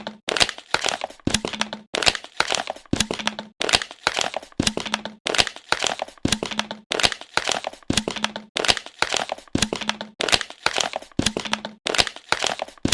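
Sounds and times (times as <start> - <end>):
plastic bottle crumpling: 0.0 - 12.9.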